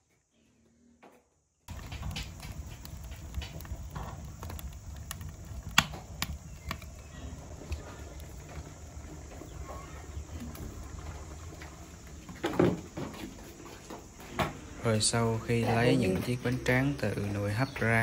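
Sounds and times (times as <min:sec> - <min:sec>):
low fire rumble: 0:01.7 - 0:18.0
wood fire crackling and popping: 0:01.7 - 0:18.0.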